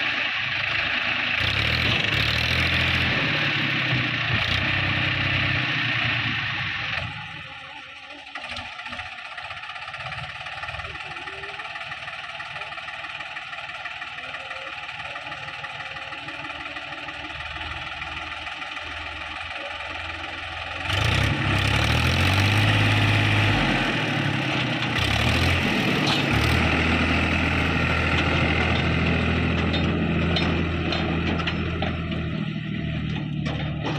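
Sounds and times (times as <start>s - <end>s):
tractor diesel engine revving: 0.0s - 33.9s.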